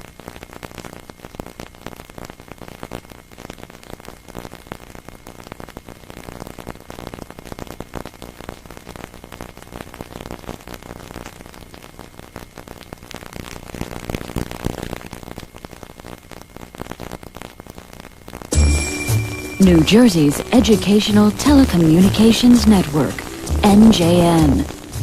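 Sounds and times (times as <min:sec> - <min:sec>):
crackling static: 0:00.0 - 0:25.0.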